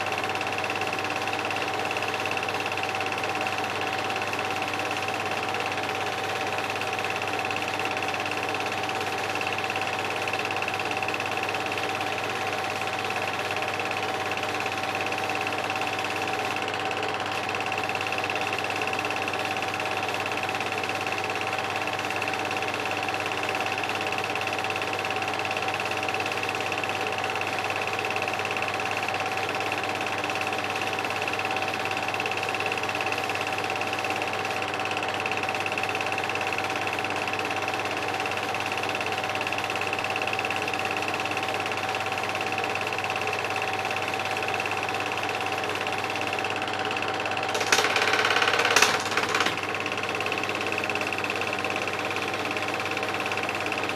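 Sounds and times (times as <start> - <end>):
film projector whirring: 0.0 - 53.9.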